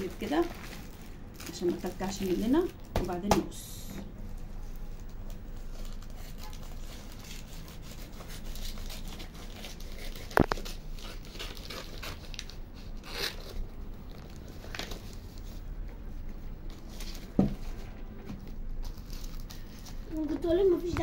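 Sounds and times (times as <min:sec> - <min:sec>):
contact paper crinkling: 0:00.0 - 0:03.2, 0:04.1 - 0:21.0.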